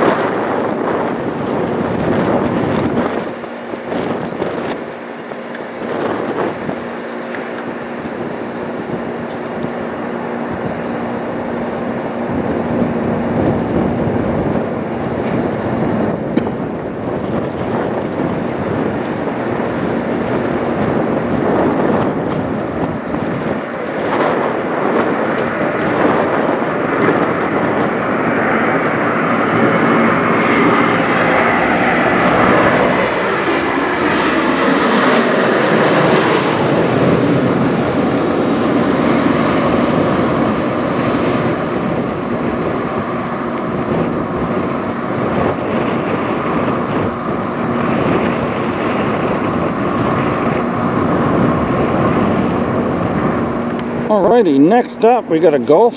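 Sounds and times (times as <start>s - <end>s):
jet flying low overhead: 0.0s - 55.9s.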